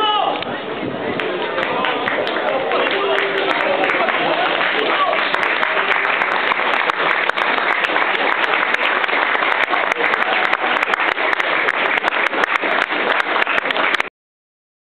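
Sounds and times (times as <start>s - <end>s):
crowd applauding: 0.3s - 14.1s.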